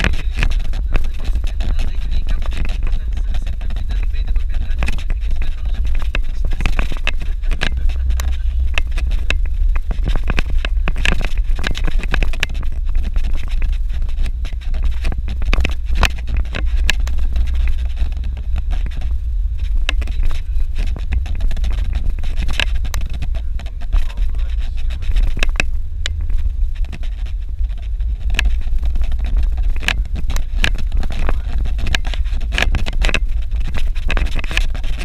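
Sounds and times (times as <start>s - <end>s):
engine and road rumble: 0.0s - 35.0s
knocks and rattles: 0.0s - 35.0s.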